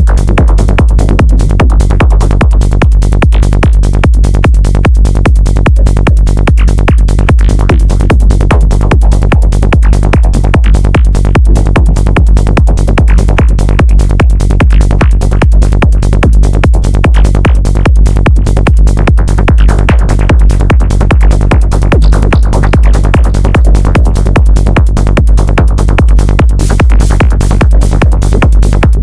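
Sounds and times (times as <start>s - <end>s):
deep pulsing bass: 0.0s - 29.0s.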